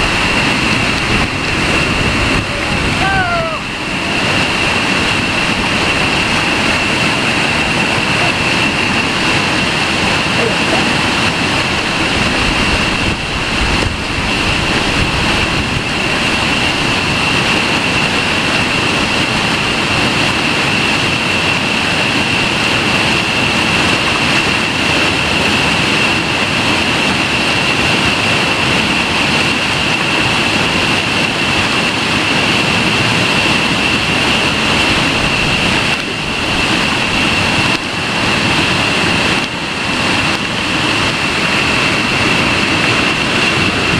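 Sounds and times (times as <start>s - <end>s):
whitewater rushing over boulders: 0.0s - 43.9s.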